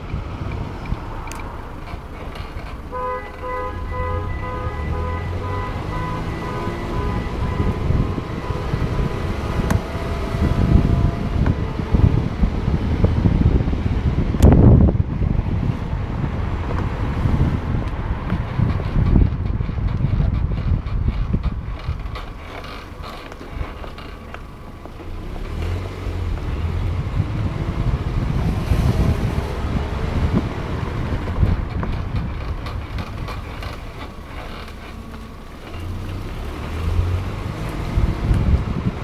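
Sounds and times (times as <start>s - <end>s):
car engine rumble: 0.0s - 39.0s
wind buffeting microphone: 0.0s - 39.0s.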